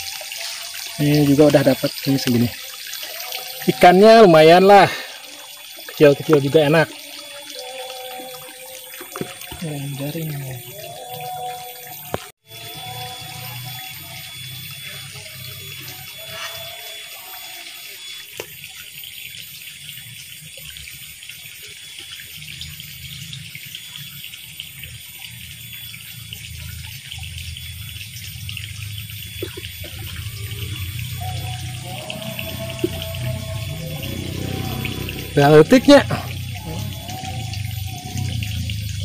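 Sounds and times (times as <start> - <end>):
water trickling: 0.0 - 39.0.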